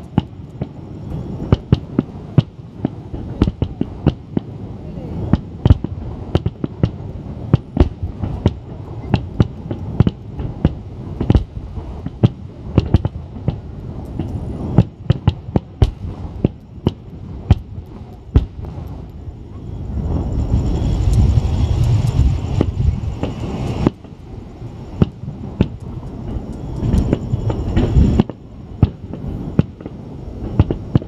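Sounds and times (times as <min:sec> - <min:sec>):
fireworks bursting with sharp bangs: 0:00.0 - 0:31.0
low rumble of distant booms: 0:00.0 - 0:31.0.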